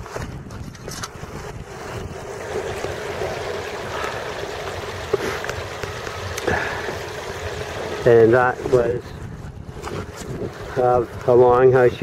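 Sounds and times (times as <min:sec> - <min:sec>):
wind buffeting microphone: 0:00.0 - 0:12.0
steady low hum: 0:01.1 - 0:12.0.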